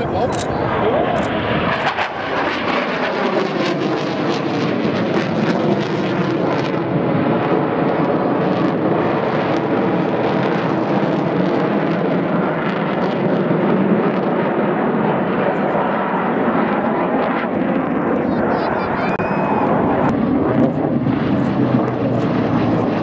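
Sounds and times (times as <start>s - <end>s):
turboprop plane flying overhead: 0.0s - 23.0s.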